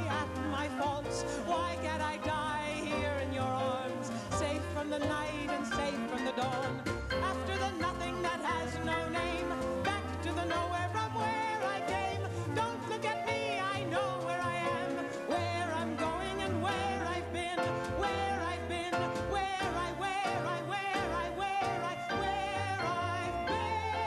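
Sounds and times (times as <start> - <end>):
instrumental accompaniment: 0.0 - 24.0
woman singing with vibrato: 0.0 - 24.0.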